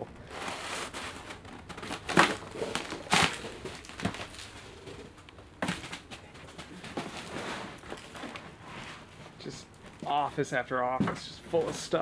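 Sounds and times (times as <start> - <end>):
footsteps crunching through paper: 0.3 - 10.2.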